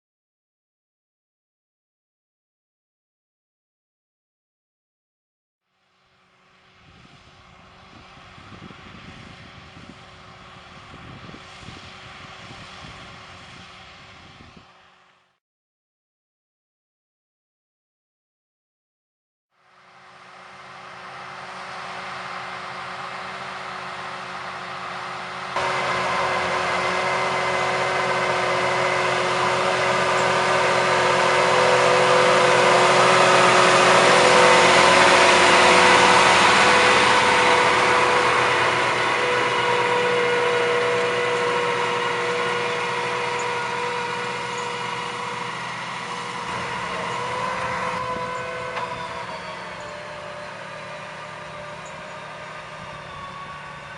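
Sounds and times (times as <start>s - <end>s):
tractor diesel engine running hard: 6.0s - 15.3s, 19.6s - 53.9s.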